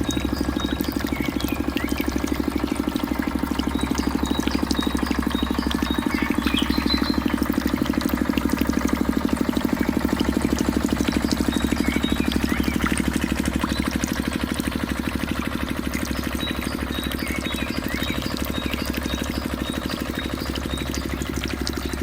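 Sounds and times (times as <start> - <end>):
small water pump engine idling: 0.0 - 22.0.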